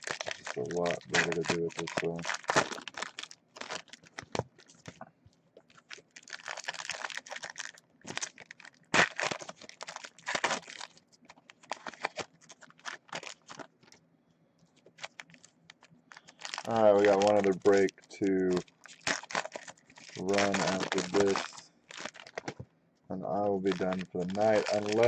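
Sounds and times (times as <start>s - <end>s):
card pack wrappers tearing: 0.0s - 5.0s, 5.7s - 13.9s, 14.9s - 22.6s, 23.3s - 25.0s
wrapper crinkling: 0.0s - 14.0s, 14.8s - 22.6s, 23.3s - 25.0s.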